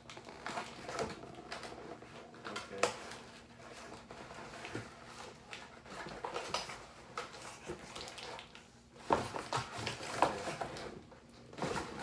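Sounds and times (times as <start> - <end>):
tools and packaging rummaged: 0.0 - 12.0.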